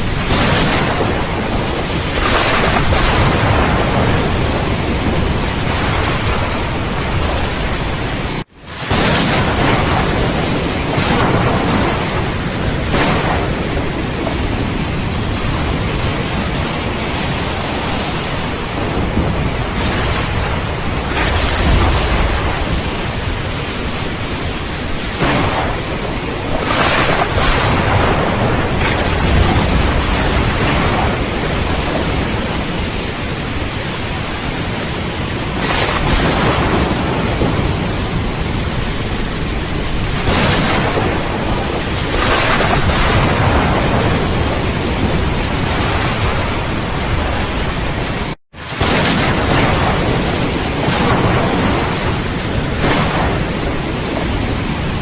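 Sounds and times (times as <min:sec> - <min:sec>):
thunder rumbling: 0:00.0 - 0:55.0.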